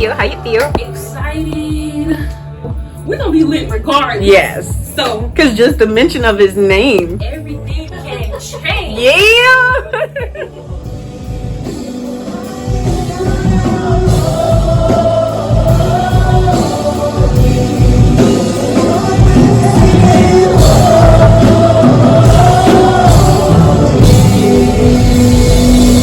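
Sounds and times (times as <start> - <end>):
song with singing over a beat: 0.0 - 26.0.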